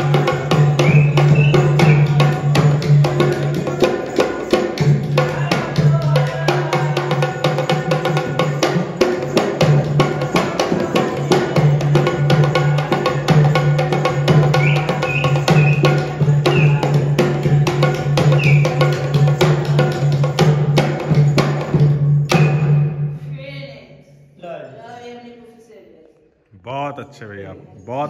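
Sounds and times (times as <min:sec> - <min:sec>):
hand drum beating fast: 0:00.0 - 0:23.0.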